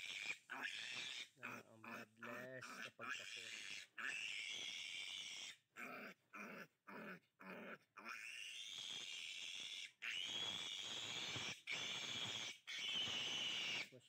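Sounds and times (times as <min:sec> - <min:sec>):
piglet squealing: 0:00.0 - 0:14.0.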